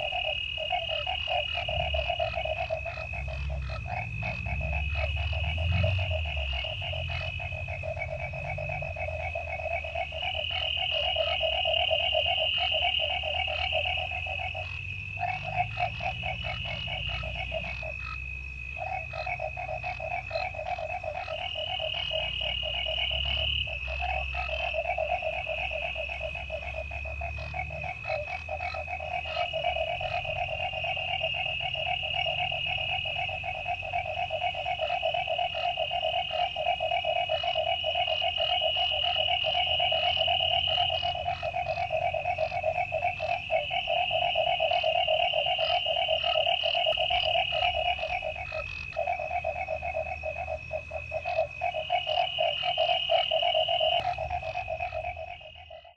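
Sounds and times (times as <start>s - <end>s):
crickets chirring: 0.0s - 55.9s
frogs trilling: 0.0s - 55.9s.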